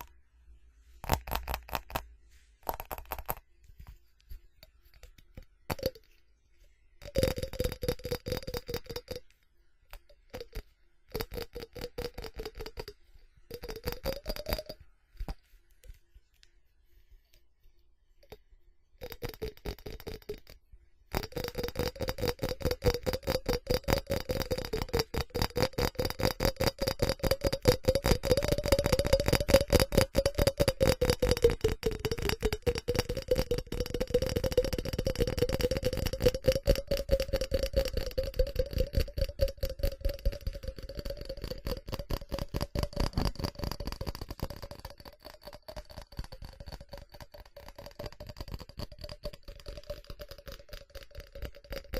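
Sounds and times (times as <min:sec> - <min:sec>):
rapid tapping on ceramic: 0:01.0 - 0:06.2, 0:06.8 - 0:15.4, 0:18.2 - 0:51.9.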